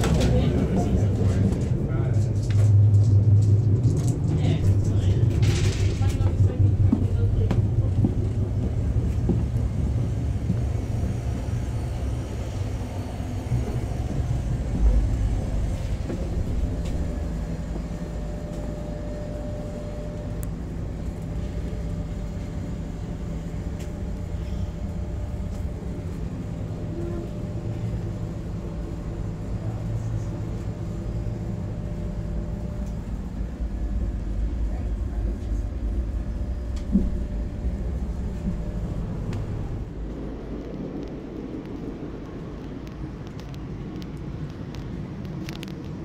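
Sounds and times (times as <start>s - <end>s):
train running rumble: 0.0s - 46.0s.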